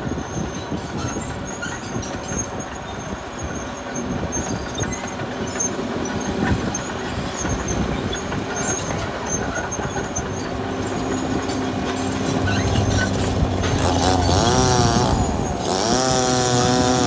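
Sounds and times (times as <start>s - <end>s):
diesel engine running: 0.0s - 17.0s
steel tracks clattering and squeaking: 0.0s - 17.0s.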